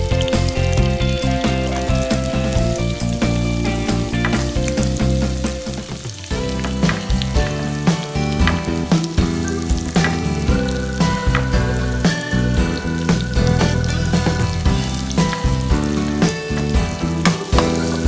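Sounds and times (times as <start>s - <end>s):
instrumental background music: 0.0s - 18.0s
food sizzling in a pan: 1.6s - 18.0s.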